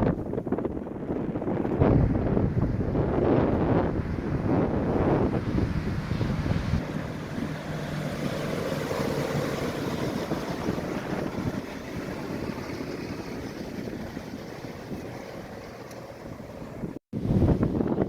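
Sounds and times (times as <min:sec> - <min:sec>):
wind buffeting microphone: 0:00.0 - 0:18.0
surf: 0:01.6 - 0:17.8.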